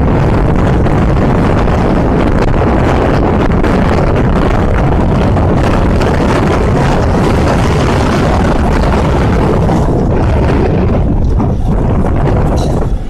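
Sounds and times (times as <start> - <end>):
ferry engine drone: 0.0 - 13.0
water washing: 0.0 - 13.0
wind buffeting microphone: 0.0 - 13.0.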